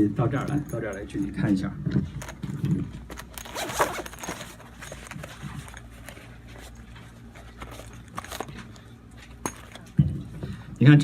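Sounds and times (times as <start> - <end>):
low steady hum: 0.0 - 11.0
rustling and light knocks: 1.9 - 10.8.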